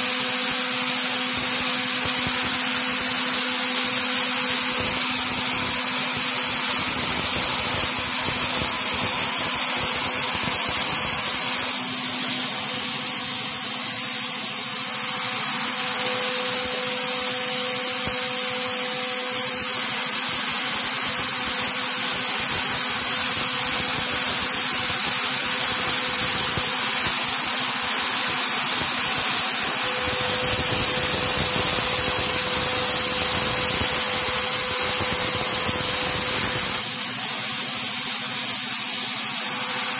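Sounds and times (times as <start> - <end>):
loud air nozzle hiss: 0.0 - 39.9
mill spindle cutting: 0.0 - 39.9.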